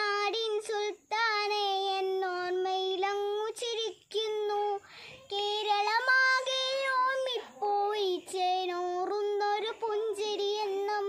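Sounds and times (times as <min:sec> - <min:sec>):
girl singing unaccompanied: 0:00.0 - 0:11.0.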